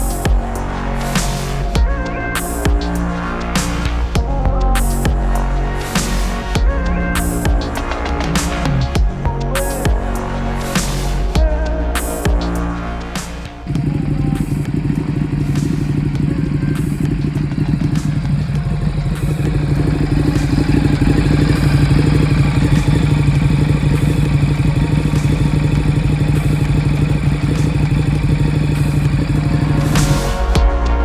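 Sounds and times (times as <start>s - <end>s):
motorcycle engine running: 0.0s - 12.8s, 13.4s - 31.0s.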